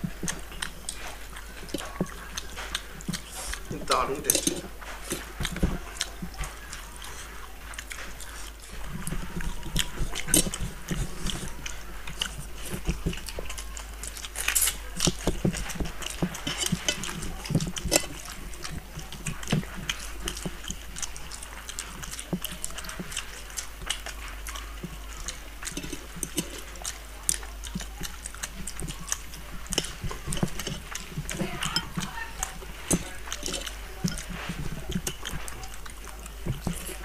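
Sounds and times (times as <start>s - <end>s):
fingers squishing food on steel plates: 0.0s - 37.0s
people chewing with wet smacking: 0.0s - 37.0s.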